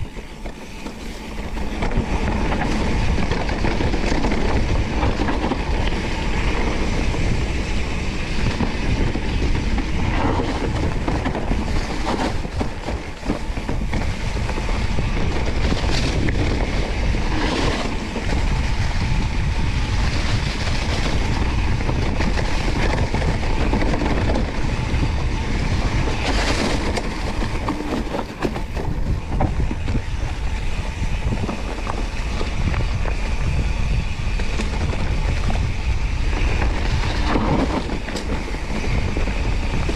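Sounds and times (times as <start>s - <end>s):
bike rattling on rough trail: 0.0s - 39.9s
wind rush on microphone: 0.0s - 39.9s.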